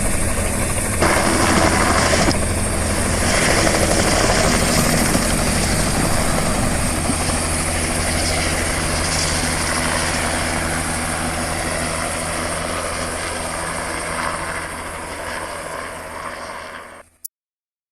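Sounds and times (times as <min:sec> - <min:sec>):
helicopter rotor and turbine: 0:00.0 - 0:17.2.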